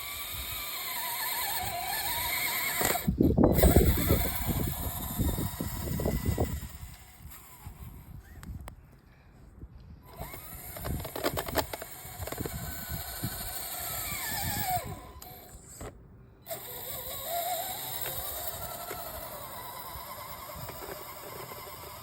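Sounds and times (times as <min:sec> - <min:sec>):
electric motor whining: 0:00.0 - 0:08.5, 0:10.1 - 0:22.0.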